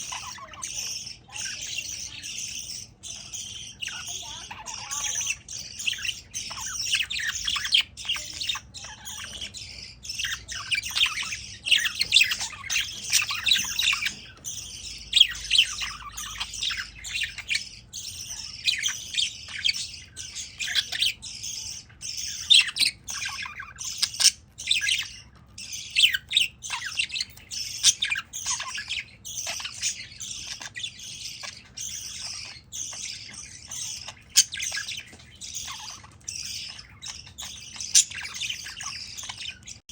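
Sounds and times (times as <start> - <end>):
budgerigar chattering: 0.0 - 39.9.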